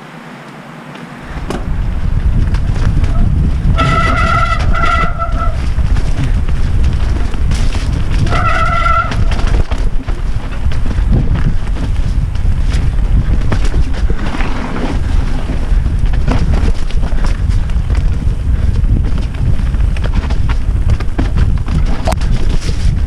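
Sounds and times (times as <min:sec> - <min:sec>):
tyres rumbling over dirt: 0:00.0 - 0:23.0
wind buffeting on microphone: 0:01.1 - 0:23.0.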